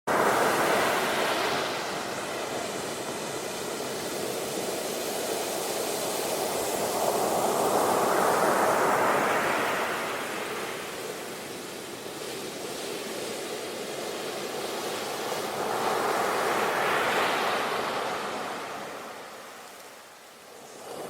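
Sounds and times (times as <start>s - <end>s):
ocean surf breaking: 0.1s - 21.0s.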